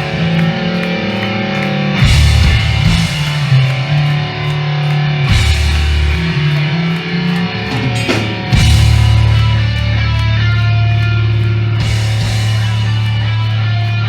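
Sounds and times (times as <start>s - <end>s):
hardcore band playing: 0.0s - 14.0s
heavy band hits: 0.0s - 14.0s.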